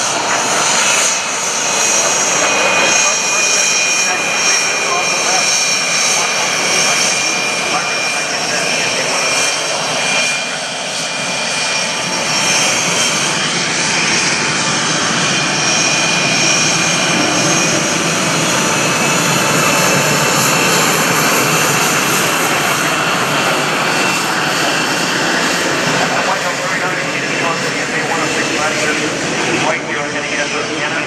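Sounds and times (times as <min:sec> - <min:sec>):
jet engine rush and whine: 0:00.0 - 0:31.0.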